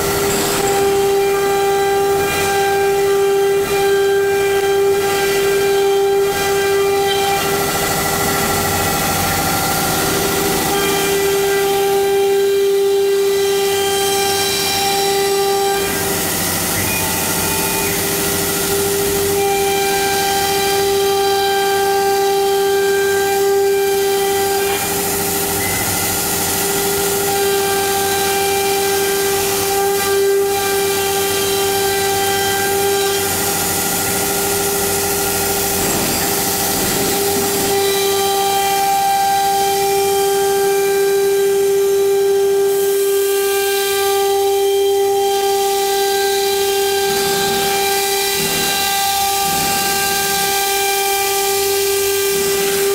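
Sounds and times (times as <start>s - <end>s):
router spindle whining: 0.0s - 52.9s.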